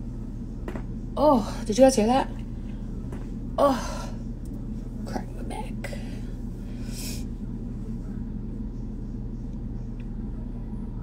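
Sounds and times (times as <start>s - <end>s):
low room hum and rumble: 0.0s - 11.0s.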